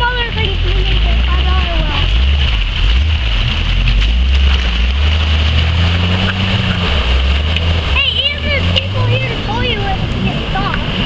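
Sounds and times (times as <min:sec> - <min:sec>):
engine running under load: 0:00.0 - 0:11.0
water rushing and splashing: 0:00.0 - 0:11.0.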